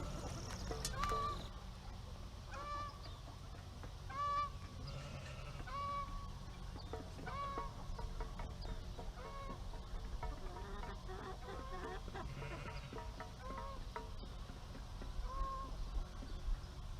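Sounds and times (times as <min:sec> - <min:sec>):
farm fowl calling: 0:00.0 - 0:14.6, 0:15.2 - 0:16.3.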